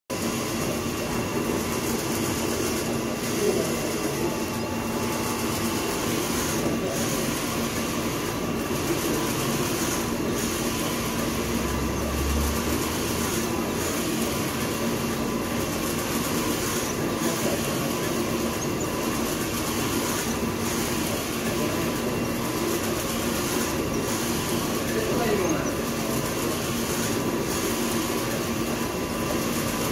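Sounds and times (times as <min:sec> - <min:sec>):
machinery humming rhythmically: 0:00.1 - 0:29.9.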